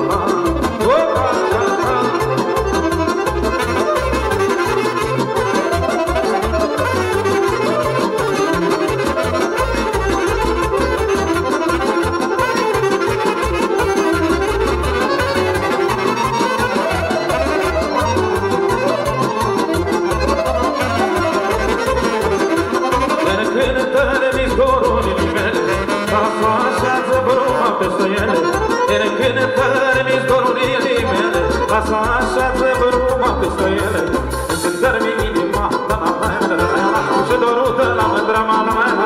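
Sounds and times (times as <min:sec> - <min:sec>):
wind instruments: 0:00.0 - 0:35.1
accordion: 0:00.0 - 0:39.0
pulsing bass: 0:00.0 - 0:39.0.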